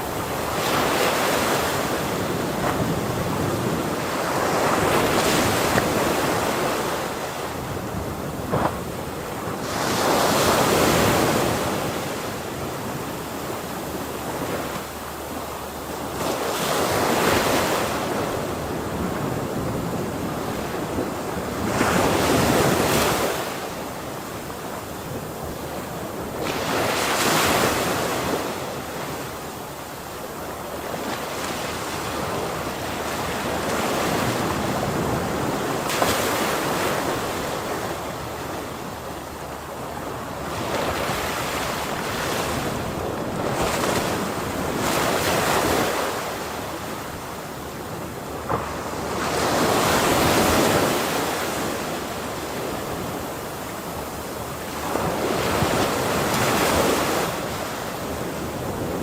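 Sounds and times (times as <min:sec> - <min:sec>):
ocean waves crashing on shore: 0:00.0 - 0:59.0
wind: 0:00.0 - 0:59.0.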